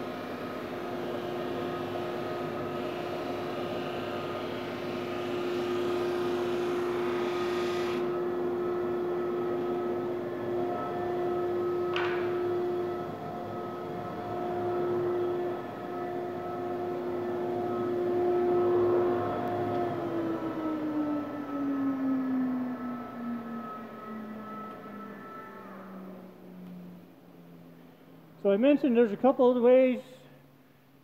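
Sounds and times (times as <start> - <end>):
sander motor hum: 0.0 - 29.7.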